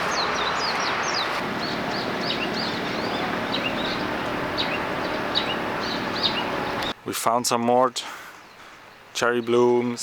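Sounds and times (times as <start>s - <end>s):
small birds chirping: 0.0s - 7.0s, 8.3s - 10.0s.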